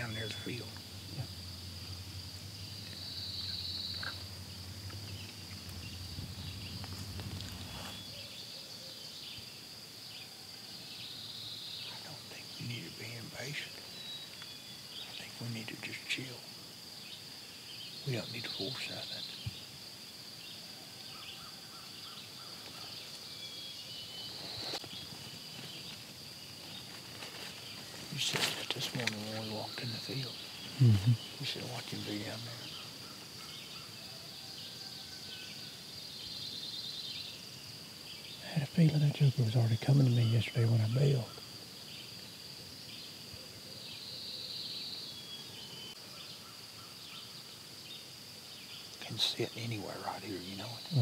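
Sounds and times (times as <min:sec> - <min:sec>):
leaves and brush rustling: 0:00.0 - 0:09.8, 0:12.2 - 0:43.6
insects chirring: 0:00.0 - 0:51.0.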